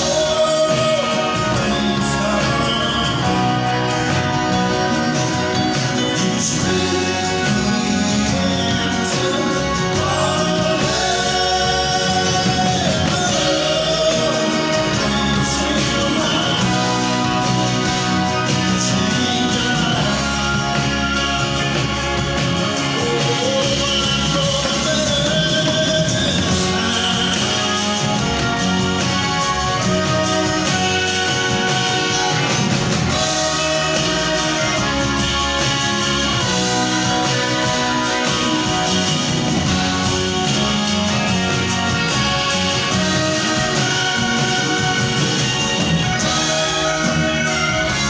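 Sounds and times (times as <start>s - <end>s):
guitar: 0.0s - 48.0s
live rock band: 0.0s - 48.0s
person singing: 0.0s - 48.0s.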